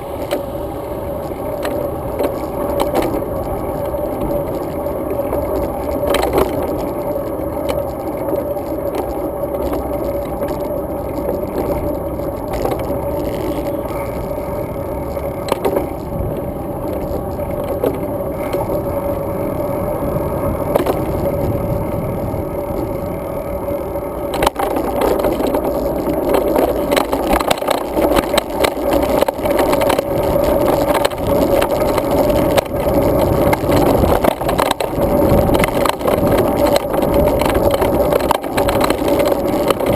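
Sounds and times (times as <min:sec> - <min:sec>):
bike clicks and knocks: 0:00.0 - 0:19.2, 0:20.6 - 0:23.2, 0:24.2 - 0:39.9
bike and mount rattling: 0:00.0 - 0:39.9
tyre noise with hum: 0:00.0 - 0:39.9
wind noise: 0:00.0 - 0:39.9.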